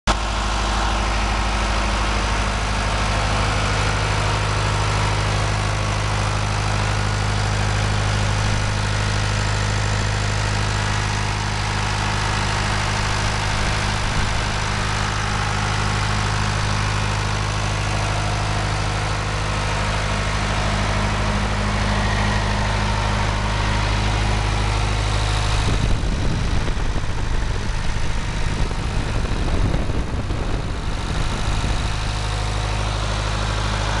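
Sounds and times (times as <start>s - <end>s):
irregular rumble and buffeting: 0.1s - 34.0s
wood chipper engine idling: 0.1s - 34.0s.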